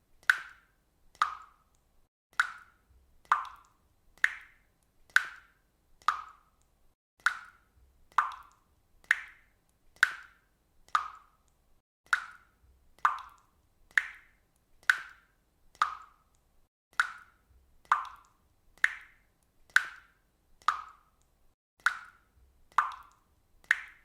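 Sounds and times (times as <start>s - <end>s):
water dripping into water: 0.0s - 24.0s.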